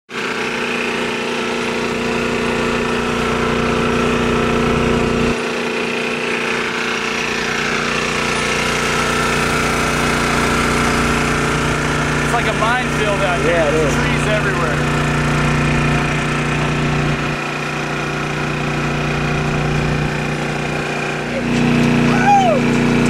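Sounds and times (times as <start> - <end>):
small engine humming: 0.1 - 23.0.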